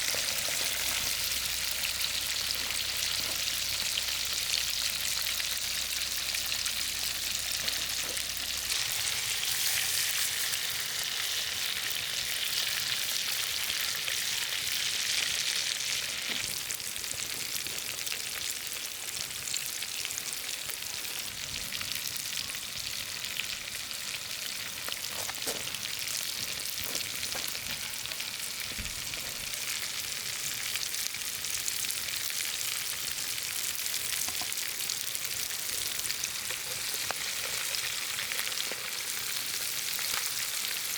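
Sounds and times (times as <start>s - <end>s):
food sizzling in hot fat: 0.0s - 40.9s.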